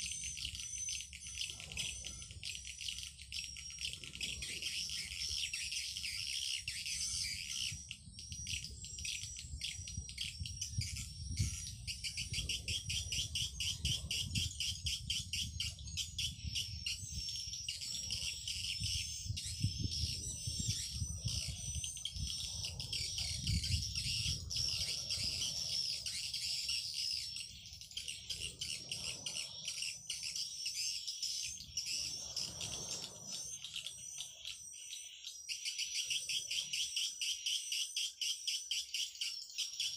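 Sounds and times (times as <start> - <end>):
swiftlet chirps and twitters: 0.0 - 39.9.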